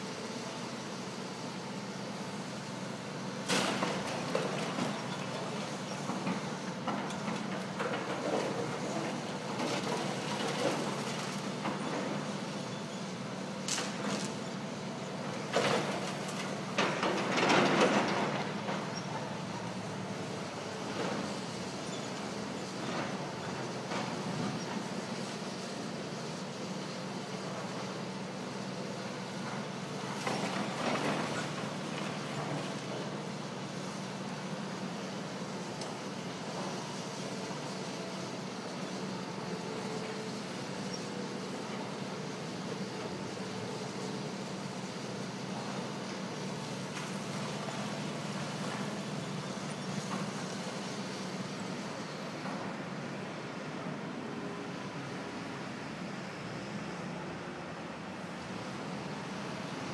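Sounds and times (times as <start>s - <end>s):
excavator diesel engines running: 0.0s - 59.9s.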